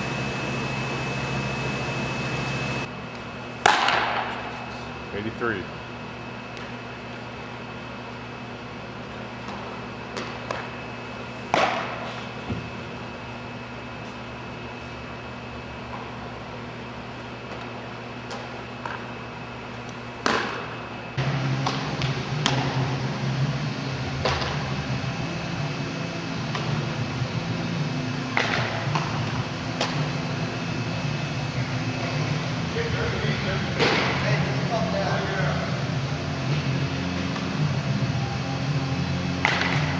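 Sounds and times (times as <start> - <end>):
ventilation hum: 0.0 - 39.9.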